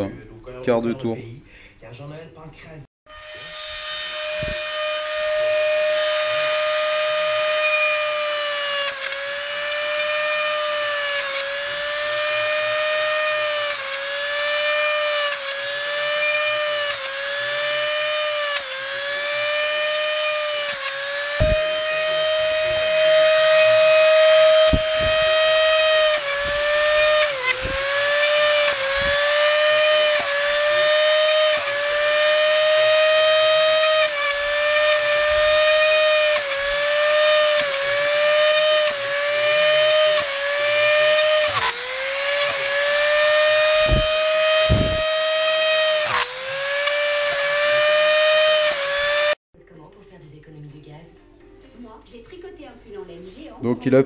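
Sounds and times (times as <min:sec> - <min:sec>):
rotary tool whining: 0:03.1 - 0:49.4.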